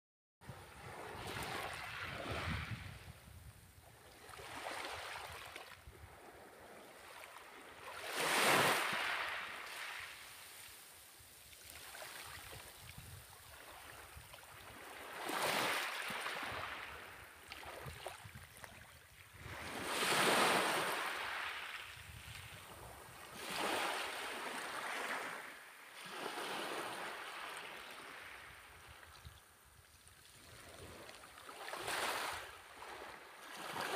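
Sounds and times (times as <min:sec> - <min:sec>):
waves breaking on beach: 0:00.8 - 0:03.0, 0:04.2 - 0:29.0, 0:30.4 - 0:33.9.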